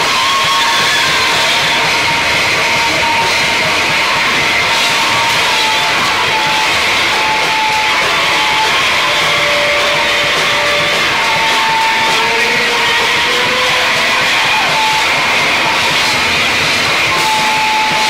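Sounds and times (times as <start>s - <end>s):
dense wall of distorted noise: 0.0s - 18.0s
whistling feedback tones: 0.0s - 18.0s.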